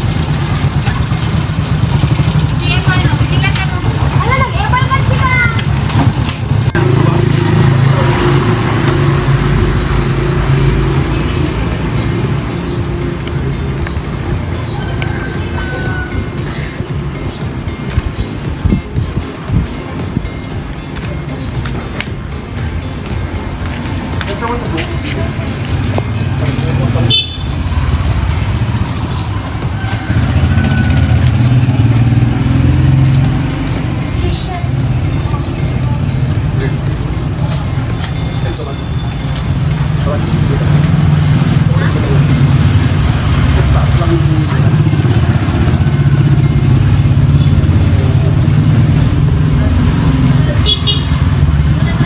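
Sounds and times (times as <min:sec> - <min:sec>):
motorcycle engine running: 0:00.0 - 0:20.8, 0:22.2 - 0:38.2, 0:38.8 - 0:52.0.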